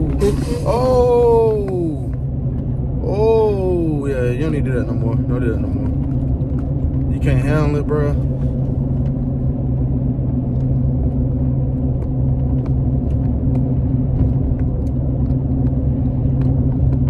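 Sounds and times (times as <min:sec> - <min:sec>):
road rumble: 0:00.0 - 0:17.0
truck engine drone: 0:00.0 - 0:17.0.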